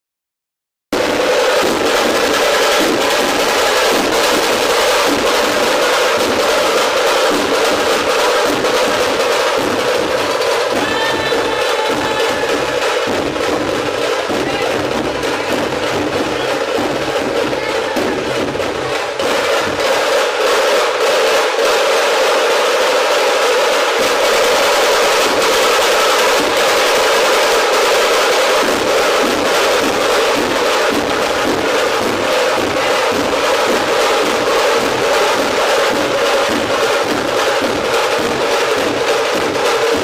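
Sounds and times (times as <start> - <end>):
barrel drums beaten in rhythm: 0.9 - 40.0.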